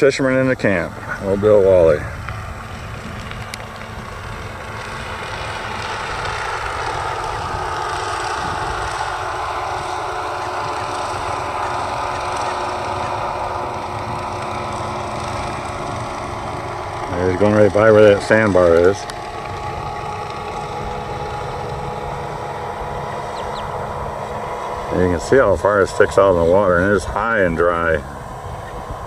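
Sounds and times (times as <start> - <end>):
motorboat engine running: 0.0 - 29.0.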